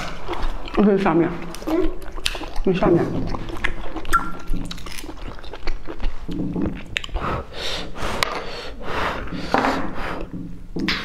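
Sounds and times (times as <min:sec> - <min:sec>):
wet chewing: 0:00.0 - 0:09.4.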